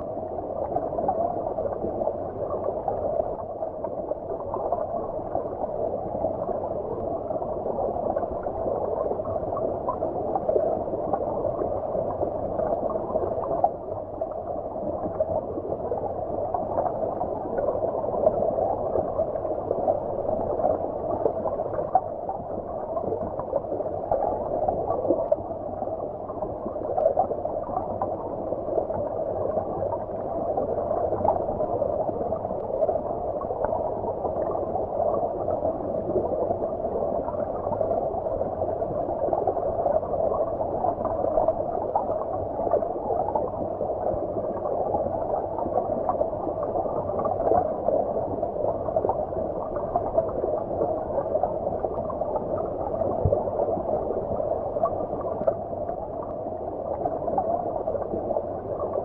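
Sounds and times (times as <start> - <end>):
underwater stream rush: 0.0 - 59.0.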